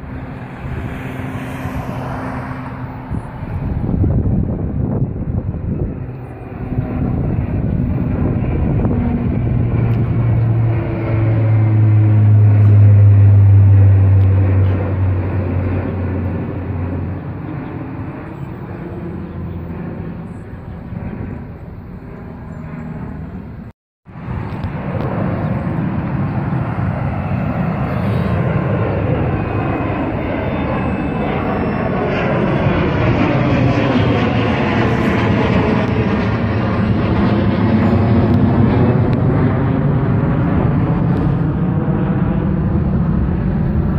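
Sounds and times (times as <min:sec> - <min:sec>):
airplane engine rushing: 0:00.0 - 0:43.9
deep propeller hum: 0:00.0 - 0:43.9.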